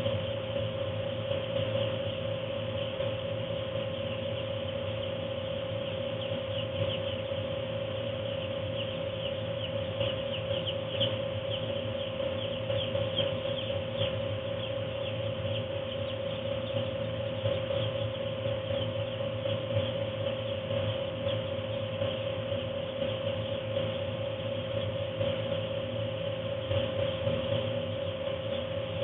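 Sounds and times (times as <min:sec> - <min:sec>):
chicks peeping: 0:00.0 - 0:29.0
heater humming: 0:00.0 - 0:29.0.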